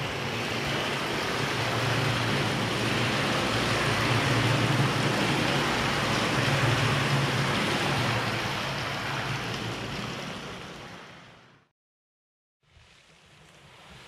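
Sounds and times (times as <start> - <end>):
water rushing: 0.0 - 11.7.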